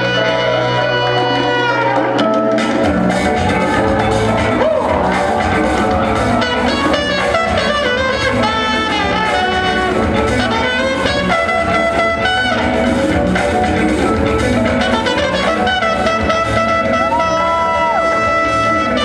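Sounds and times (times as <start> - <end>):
loud music with guitar and drums: 0.0 - 19.0.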